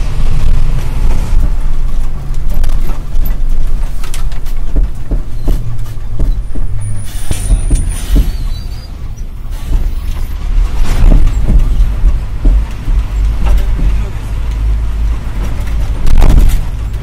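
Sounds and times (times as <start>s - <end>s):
bus rushing past: 0.0s - 17.0s
cab rattling and creaking: 0.0s - 17.0s
truck engine drone: 0.0s - 17.0s.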